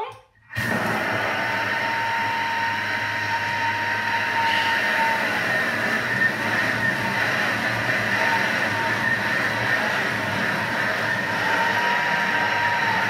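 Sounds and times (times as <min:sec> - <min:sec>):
kitchen machine whirring: 0:00.6 - 0:13.0.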